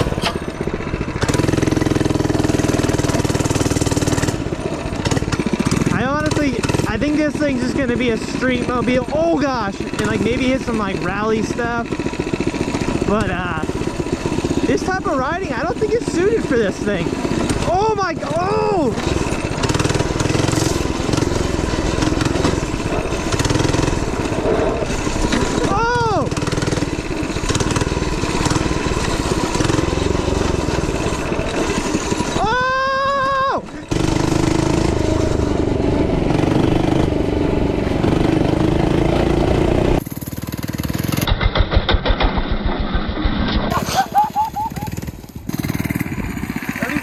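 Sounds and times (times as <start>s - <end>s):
mini bike engine running: 0.0s - 47.0s.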